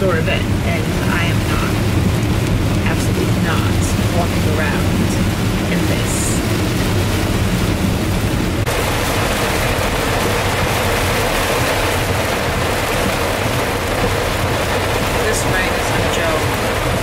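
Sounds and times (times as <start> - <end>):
heavy rain hissing on car: 0.0 - 17.0
road rumble: 0.0 - 17.0.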